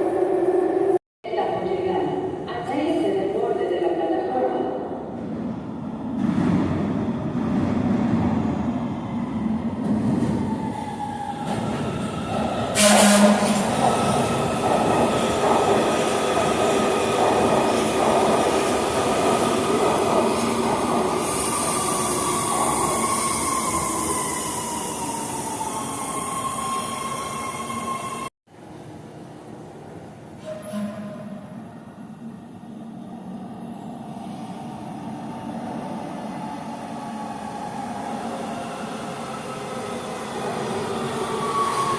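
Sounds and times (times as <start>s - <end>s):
train running through station: 0.0s - 41.9s.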